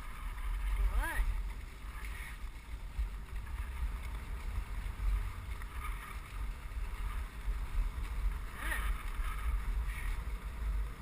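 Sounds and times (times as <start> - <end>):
dogsled gliding on snow: 0.0 - 11.0
wind buffeting microphone: 0.0 - 11.0.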